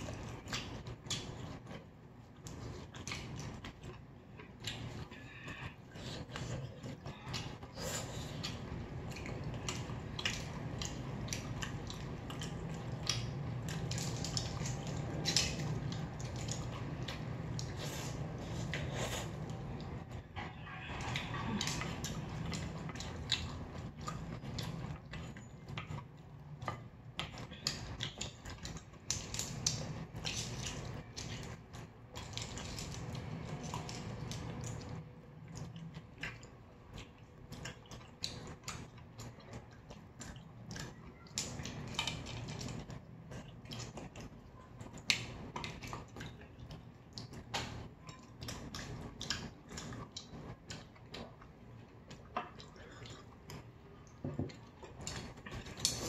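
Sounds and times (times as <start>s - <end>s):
food chewing and biting: 0.0s - 56.0s.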